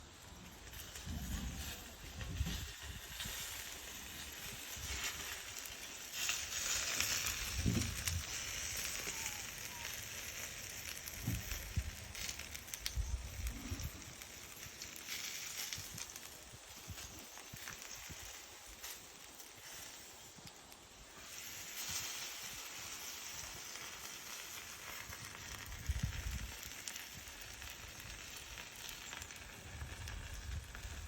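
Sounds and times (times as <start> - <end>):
wood fire crackling and hissing: 0.0 - 31.0.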